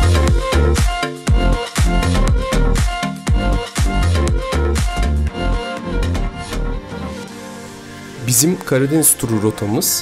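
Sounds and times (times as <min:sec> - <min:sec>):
electronic dance music: 0:00.0 - 0:08.6.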